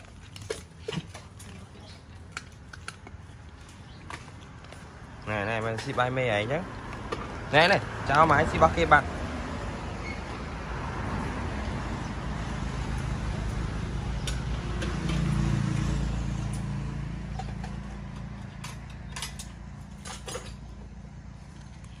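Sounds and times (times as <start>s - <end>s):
passing vehicle engine rumble: 3.2s - 22.0s.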